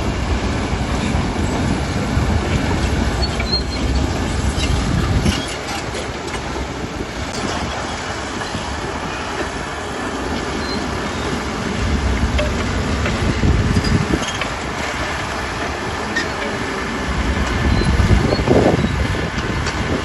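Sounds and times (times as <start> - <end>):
bulldozer diesel engine: 0.0 - 20.0
crawler tracks clanking and squealing: 2.5 - 20.0.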